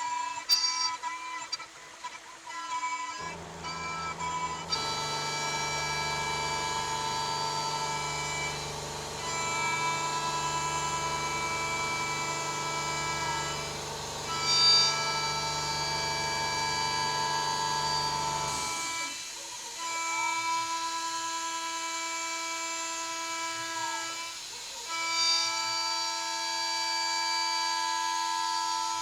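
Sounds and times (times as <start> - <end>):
milling spindle whine: 3.2 - 29.0.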